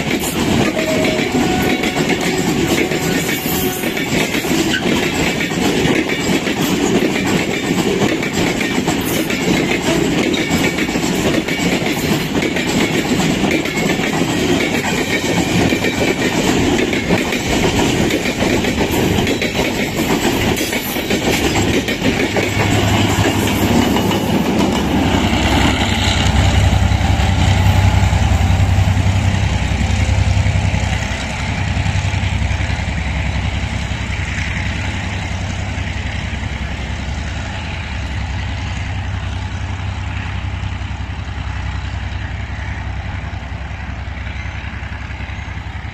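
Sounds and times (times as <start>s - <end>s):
train wheels clattering: 0.0s - 40.8s
diesel locomotive engine drone: 0.0s - 45.9s.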